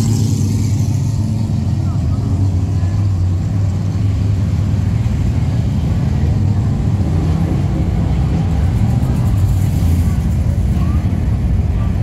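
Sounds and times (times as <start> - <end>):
car engines running at low revs: 0.0 - 12.0.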